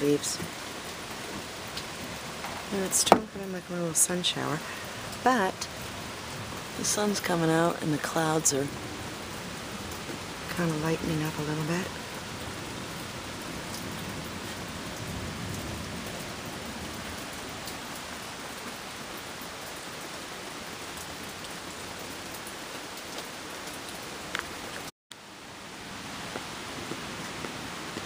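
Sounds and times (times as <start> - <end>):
light rain on pavement: 0.0 - 28.0.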